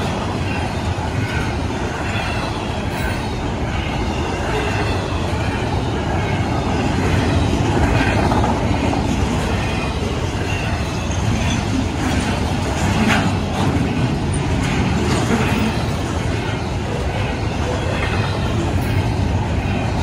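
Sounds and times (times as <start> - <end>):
crossing bell ringing: 0.0 - 20.0
freight train rumbling and clattering: 0.0 - 20.0.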